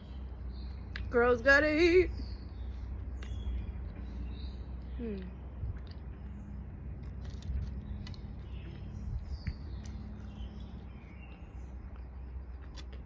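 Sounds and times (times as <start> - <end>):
birds chirping faintly: 0.0 - 13.0
steady low rumble: 0.0 - 13.0.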